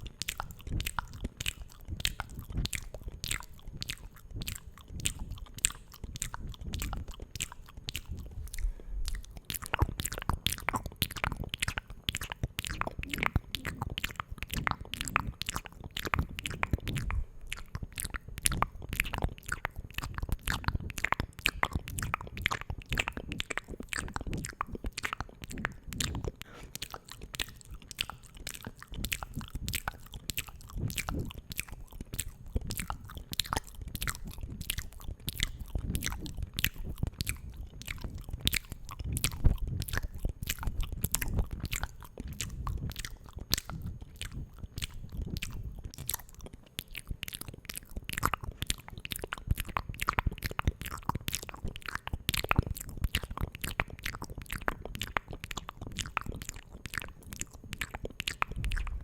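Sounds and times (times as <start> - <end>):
wet mouth clicks: 0.0 - 59.0.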